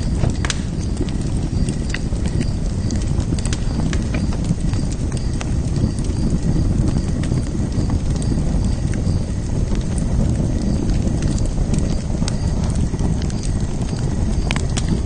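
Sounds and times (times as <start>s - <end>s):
open fire crackling: 0.0s - 15.0s.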